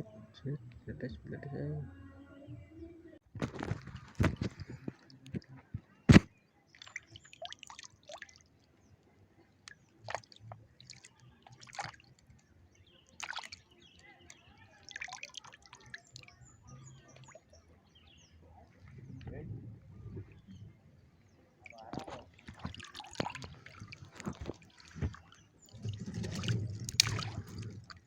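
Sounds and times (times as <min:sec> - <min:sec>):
water splashing and dripping: 0:03.4 - 0:08.8, 0:09.5 - 0:17.5, 0:18.8 - 0:28.0.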